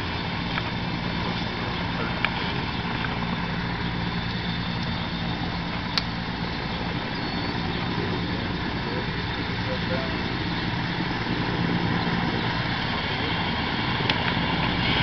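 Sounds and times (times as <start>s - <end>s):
helicopter rotor and turbine drone: 0.0s - 15.0s.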